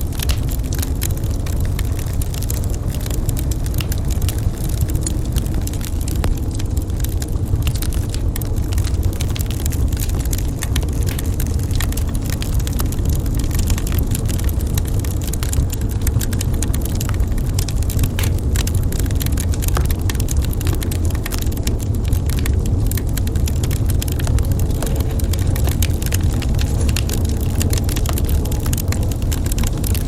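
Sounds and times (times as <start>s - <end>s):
low fire rumble: 0.0s - 30.0s
wood fire crackling and popping: 0.0s - 30.0s.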